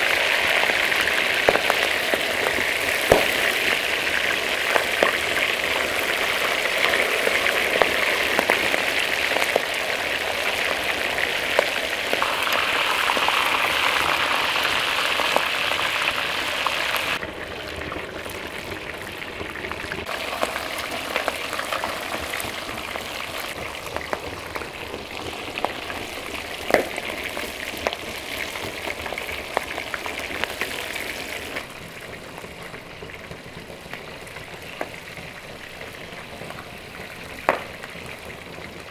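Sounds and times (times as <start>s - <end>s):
fish frying in oil: 0.0s - 38.9s.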